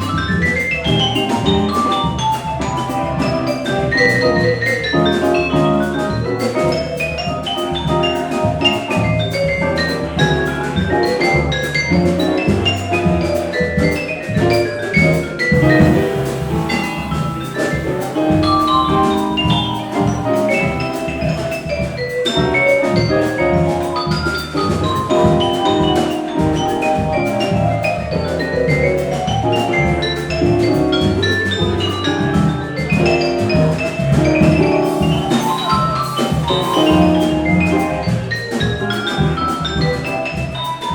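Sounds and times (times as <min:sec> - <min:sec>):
jazz combo playing: 0:00.0 - 0:40.9.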